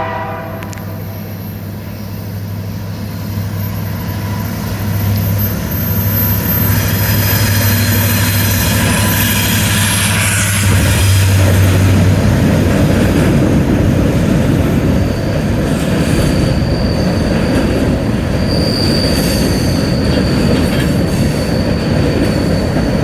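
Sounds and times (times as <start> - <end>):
freight train rumble and wheel clatter: 0.0 - 23.0
high train wheel squeal: 0.0 - 23.0.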